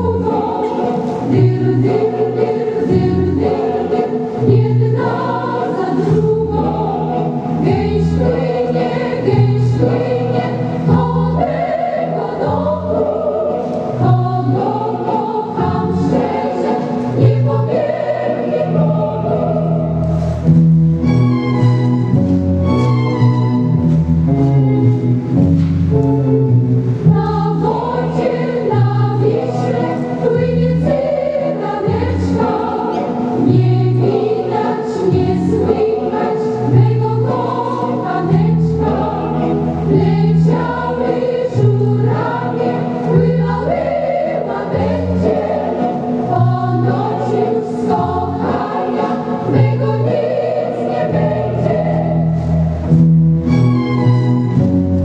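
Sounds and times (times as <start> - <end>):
choir singing: 0.0 - 23.8, 25.9 - 53.0
instrumental waltz accompaniment: 0.0 - 55.0.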